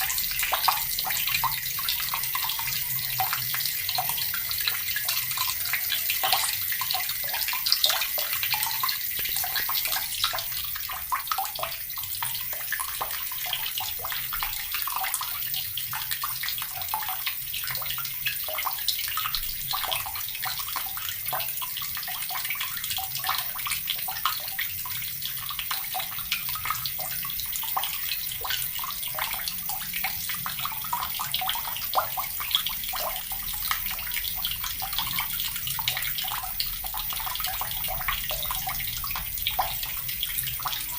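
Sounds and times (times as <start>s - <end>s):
water running from a tap: 0.0s - 40.9s.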